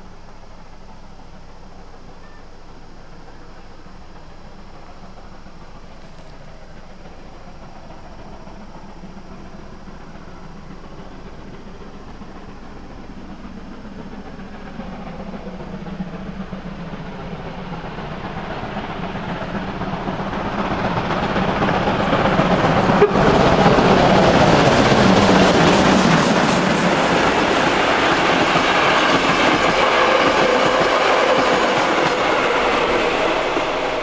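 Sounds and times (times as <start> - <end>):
steam locomotive approaching: 0.0 - 34.0.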